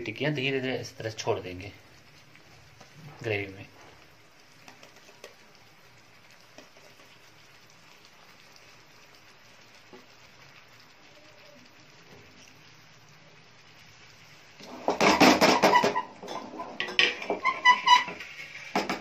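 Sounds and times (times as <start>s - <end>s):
gravy bubbling in a pan: 0.0s - 19.0s.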